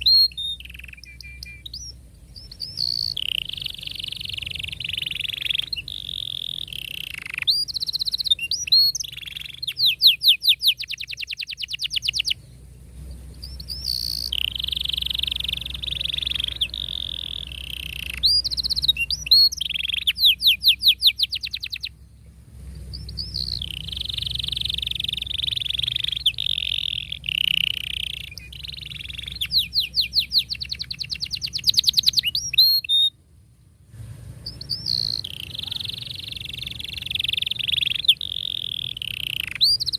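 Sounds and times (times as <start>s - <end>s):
canary singing: 0.0s - 33.2s, 34.4s - 39.9s.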